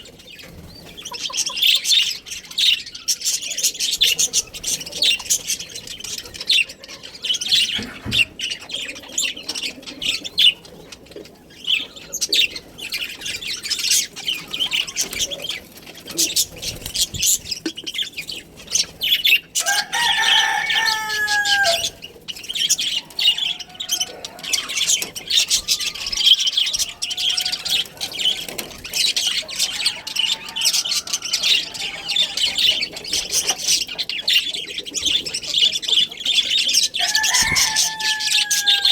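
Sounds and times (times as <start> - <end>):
budgerigars chattering and chirping: 0.0 - 38.9
long layered bird call: 0.0 - 38.9.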